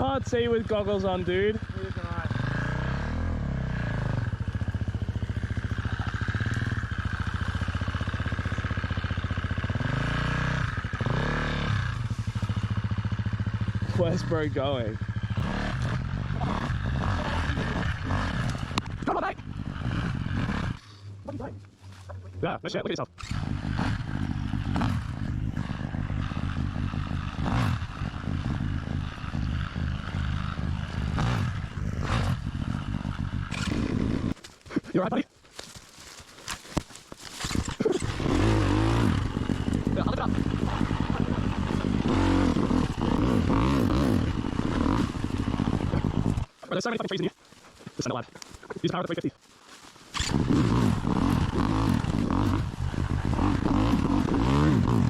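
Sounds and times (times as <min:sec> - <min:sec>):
dirt bike engine running: 0:00.0 - 0:49.2, 0:50.1 - 0:55.0.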